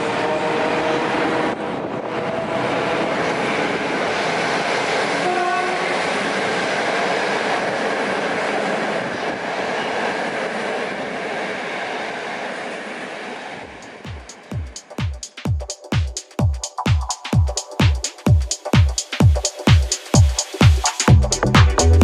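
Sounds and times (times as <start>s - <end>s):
train wheels on rails: 0.0s - 16.4s, 17.1s - 21.9s.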